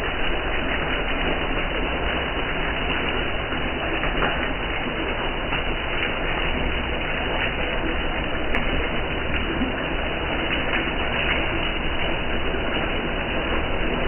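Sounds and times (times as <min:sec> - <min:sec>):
curry simmering in a pan: 0:00.0 - 0:14.0.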